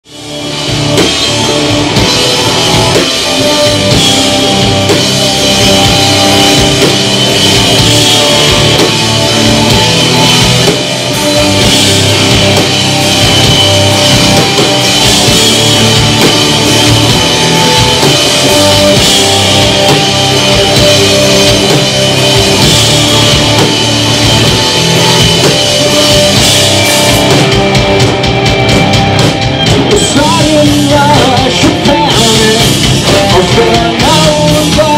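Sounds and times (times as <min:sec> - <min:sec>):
drum and cymbal hits: 0:00.0 - 0:34.9
live rock band playing: 0:00.0 - 0:34.9.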